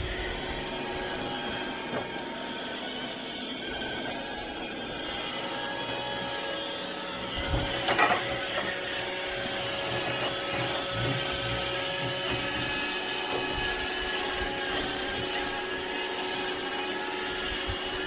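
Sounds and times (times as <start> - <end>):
robot vacuum cleaner running: 0.0 - 18.0.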